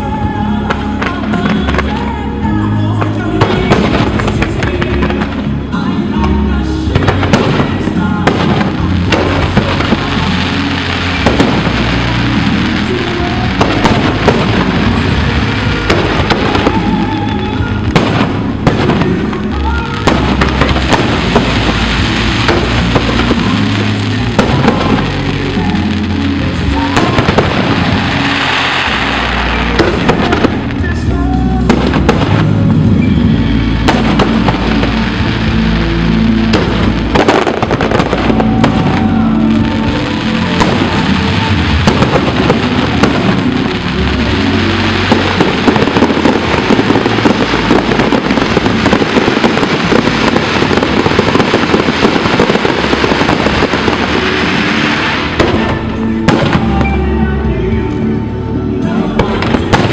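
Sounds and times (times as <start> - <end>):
fireworks bursting and crackling: 0.0 - 58.0, 59.0 - 59.9
music with bass line: 0.0 - 59.9.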